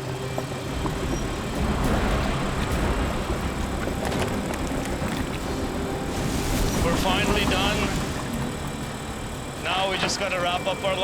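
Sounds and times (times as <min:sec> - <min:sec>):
diesel machinery rumbling: 0:00.0 - 0:11.0.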